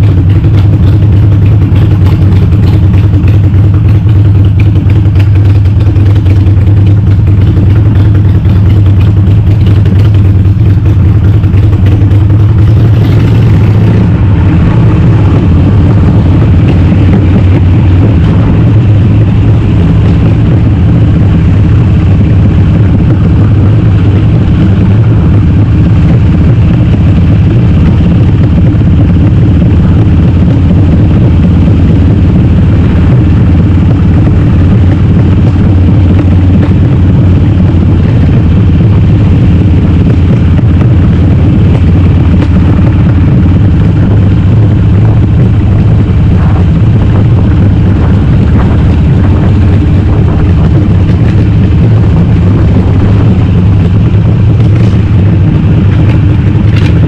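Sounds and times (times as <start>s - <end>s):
loud motorcycle engine running: 0.0s - 57.0s.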